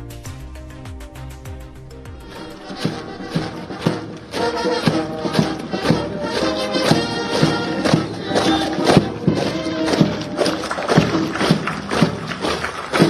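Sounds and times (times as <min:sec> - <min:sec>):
drum beat: 0:00.0 - 0:13.0
brass band playing a march: 0:02.2 - 0:13.0.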